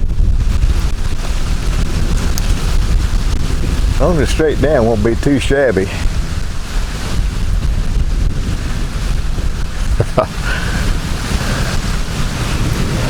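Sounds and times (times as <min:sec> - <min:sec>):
rain falling: 0:00.0 - 0:13.0
wind buffeting microphone: 0:00.0 - 0:13.0.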